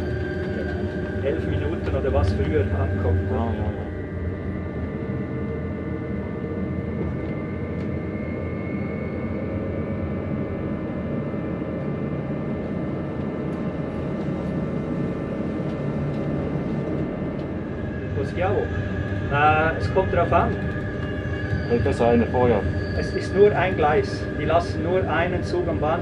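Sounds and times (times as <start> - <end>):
faint steady whine: 0.0 - 26.0
rumble of wheels on rails: 0.0 - 26.0.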